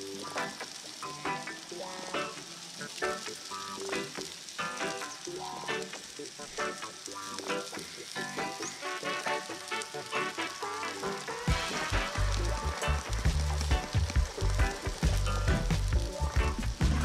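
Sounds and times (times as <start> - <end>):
onions sizzling in a frying pan: 0.0 - 17.0.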